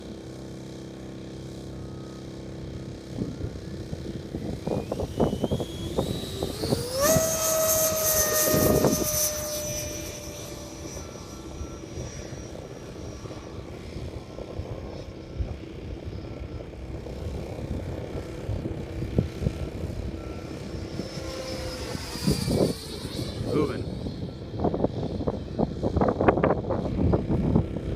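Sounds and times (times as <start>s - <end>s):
model airplane motor whining: 0.0s - 27.9s
wind buffeting microphone: 2.7s - 27.9s.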